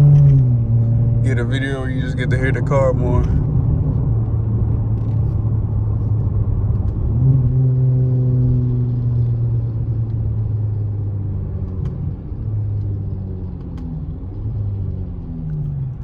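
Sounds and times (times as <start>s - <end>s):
car exhaust drone revving: 0.0s - 16.0s.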